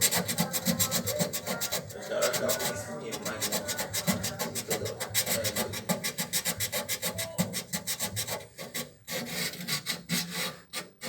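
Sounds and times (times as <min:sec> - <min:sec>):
abrasive rubbing on metal: 0:00.0 - 0:11.0.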